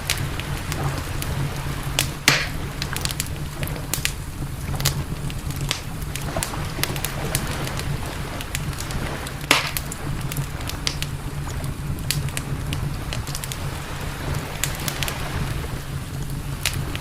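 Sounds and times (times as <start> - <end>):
campfire crackling and popping: 0.0 - 17.0
low rumble: 0.0 - 17.0.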